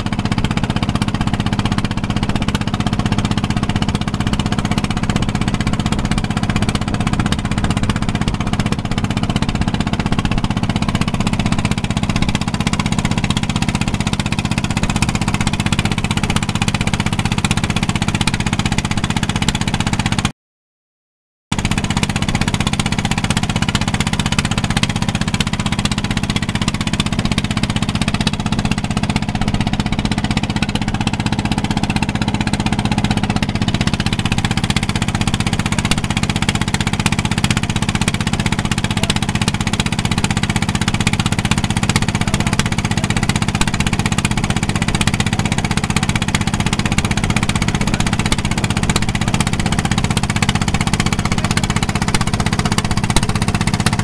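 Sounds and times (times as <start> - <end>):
motorboat engine chugging: 0.0 - 20.3, 21.5 - 54.0.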